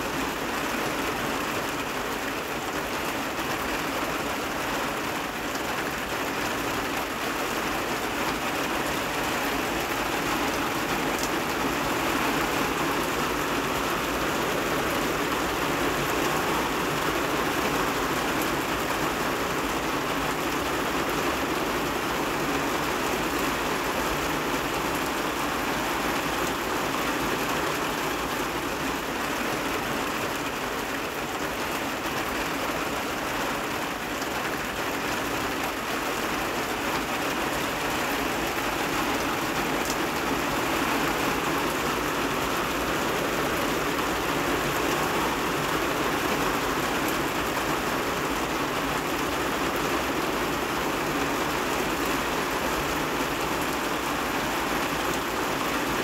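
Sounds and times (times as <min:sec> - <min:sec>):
heavy rain on rooftop and trees: 0:00.0 - 0:56.0.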